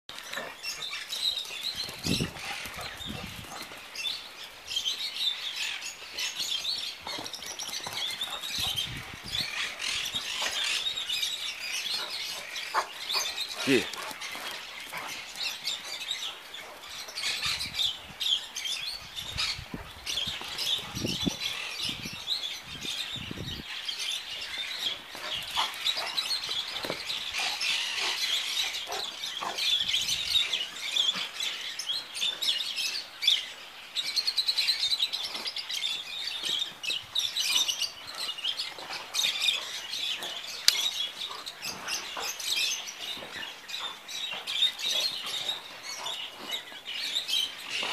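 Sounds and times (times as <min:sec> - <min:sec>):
small birds chirping: 0:00.1 - 0:47.9.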